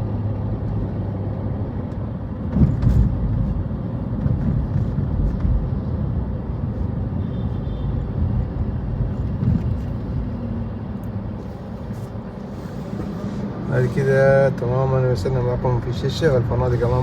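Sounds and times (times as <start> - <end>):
road vehicle rumble: 0.0 - 17.0.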